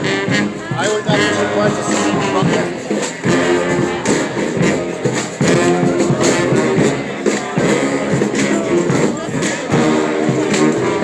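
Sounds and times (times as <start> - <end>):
brass band playing: 0.0 - 11.0
horns holding notes: 0.0 - 11.0
percussion beat: 0.0 - 11.0.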